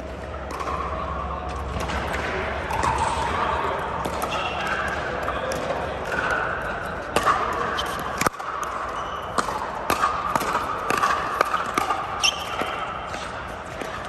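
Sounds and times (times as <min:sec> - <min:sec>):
ball bouncing on court: 0:00.3 - 0:06.5, 0:07.1 - 0:14.0.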